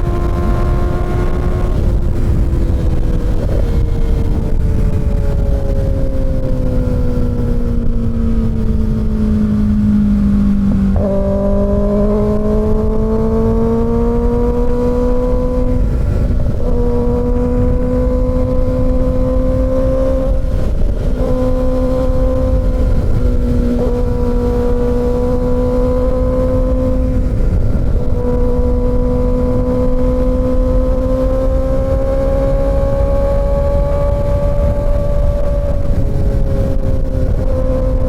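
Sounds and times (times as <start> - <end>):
motorcycle engine cruising: 0.0 - 38.0
wind rush: 0.0 - 38.0.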